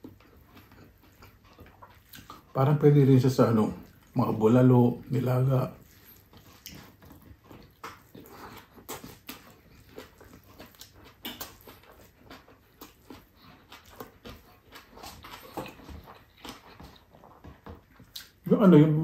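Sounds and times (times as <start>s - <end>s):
close chewing with wet mouth clicks: 0.0s - 18.5s.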